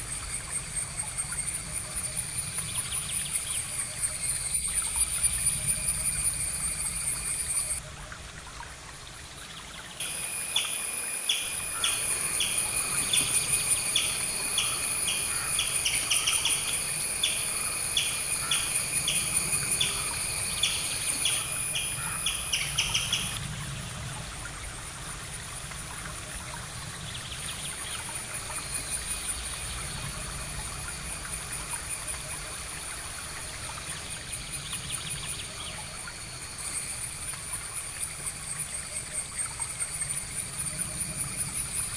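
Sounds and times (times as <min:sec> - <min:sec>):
high-pitched insect trill: 0:00.0 - 0:07.8, 0:10.0 - 0:23.4, 0:27.3 - 0:41.9.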